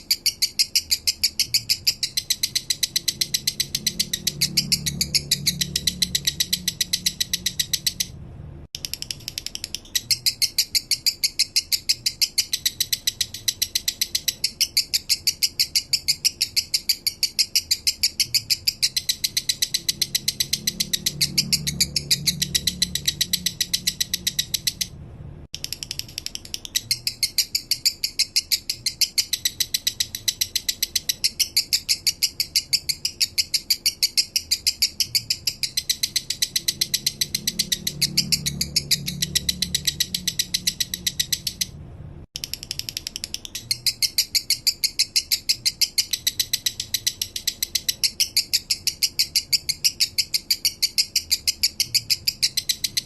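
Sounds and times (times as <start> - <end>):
lovebird chattering trill: 0.0 - 8.1, 8.8 - 25.0, 25.6 - 41.8, 42.4 - 53.0.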